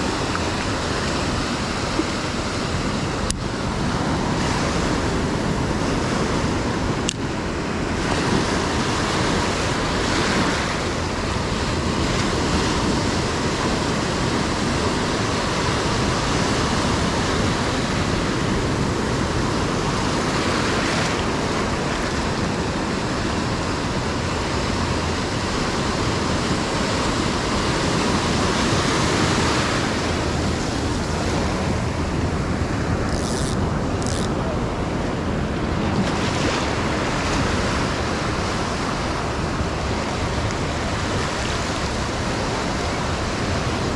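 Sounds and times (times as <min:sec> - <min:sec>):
ocean surf breaking: 0:00.0 - 0:43.9
wind on microphone: 0:00.0 - 0:43.9.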